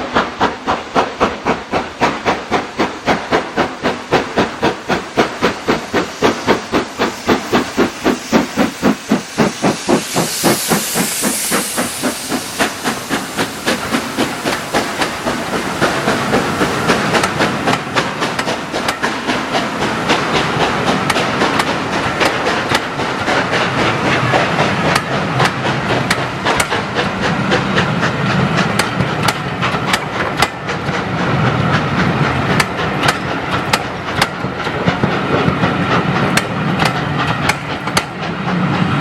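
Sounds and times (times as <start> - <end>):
hissing steam: 0.0 - 39.0
steam locomotive exhaust beats: 0.0 - 39.0.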